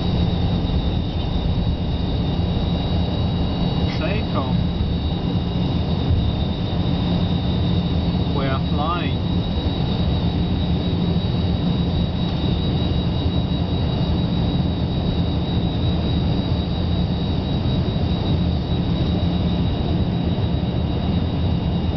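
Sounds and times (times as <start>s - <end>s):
jet engines roaring with whine: 0.0s - 21.9s.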